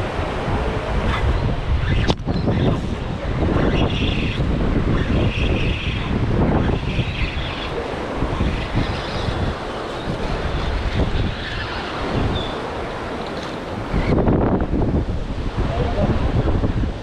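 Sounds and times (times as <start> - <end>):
gusty wind on microphone: 0.0 - 17.0
rough surf rushing: 0.0 - 17.0.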